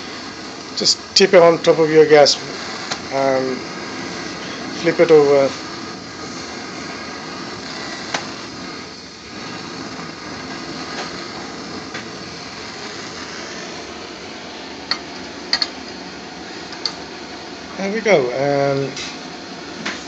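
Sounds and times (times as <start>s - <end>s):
gas burner flame rushing: 0.0s - 20.0s.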